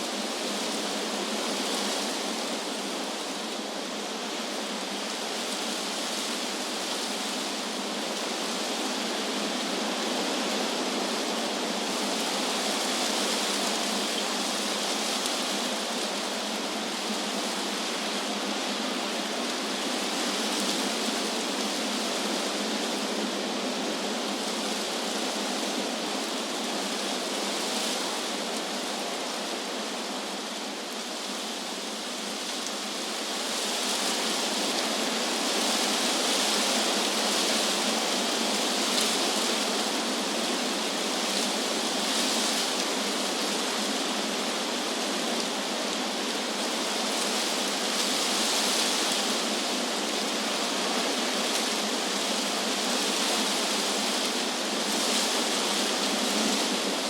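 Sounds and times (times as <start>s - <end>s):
wind rustling tree leaves: 0.0s - 57.0s.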